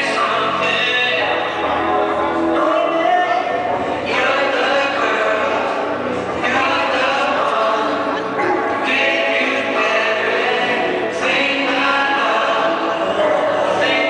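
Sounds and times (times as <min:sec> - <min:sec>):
choir singing sustained chords: 0:00.0 - 0:14.0.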